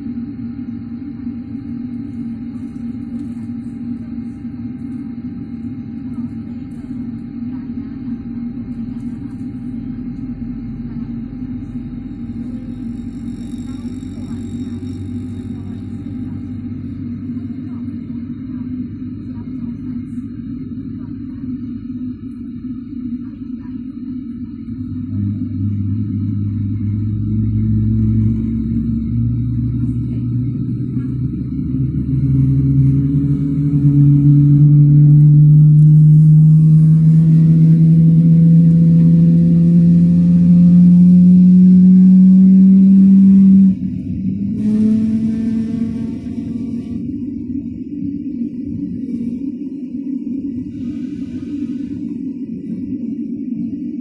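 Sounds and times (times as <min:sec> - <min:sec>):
jet engine droning: 0:00.0 - 0:54.0.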